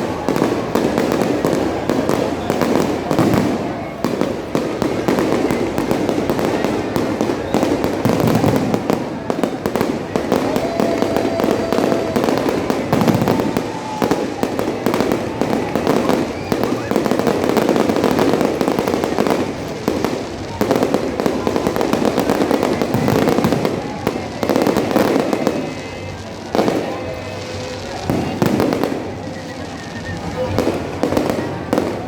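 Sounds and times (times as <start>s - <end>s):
crowd noise: 0.0s - 32.0s
fireworks bangs and crackles: 0.0s - 32.0s
faint firework whistles: 4.7s - 32.0s.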